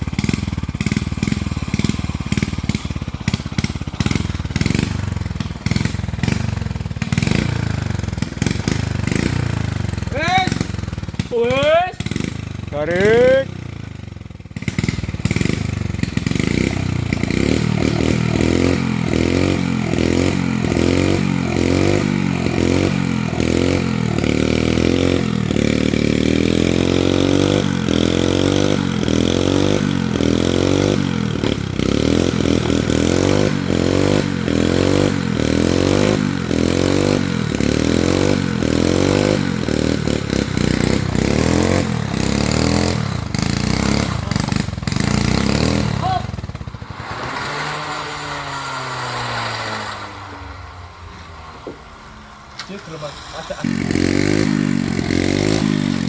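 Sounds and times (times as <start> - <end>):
motorcycle engine under load: 0.0 - 56.0.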